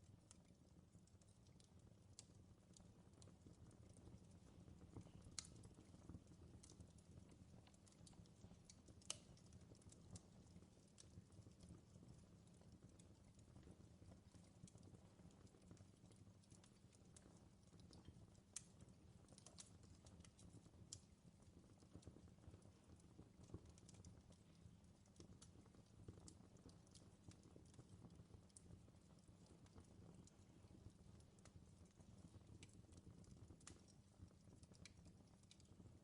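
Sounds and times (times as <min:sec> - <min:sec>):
fire pops and snaps: 0:00.2 - 0:36.0
fire rumbling: 0:01.0 - 0:36.0.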